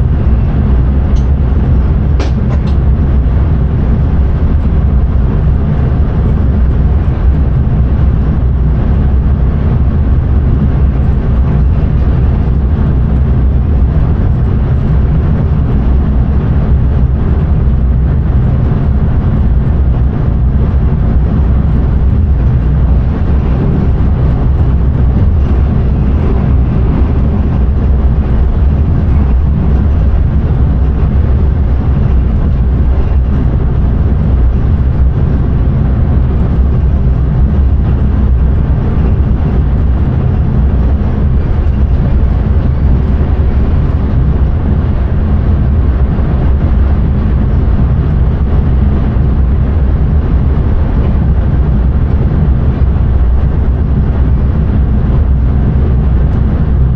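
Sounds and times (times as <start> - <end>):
low hum: 0.0 - 56.9
train running rumble: 0.0 - 56.9.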